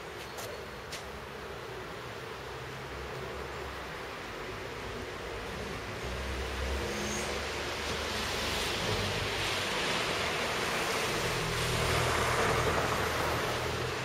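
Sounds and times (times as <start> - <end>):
passing traffic: 0.0 - 14.0.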